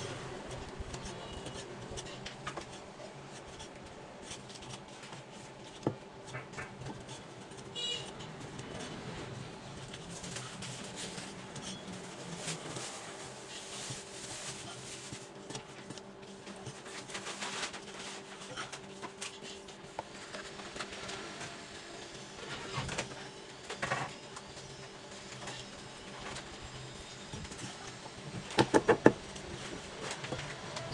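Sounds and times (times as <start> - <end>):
steady background hum: 0.0 - 30.9.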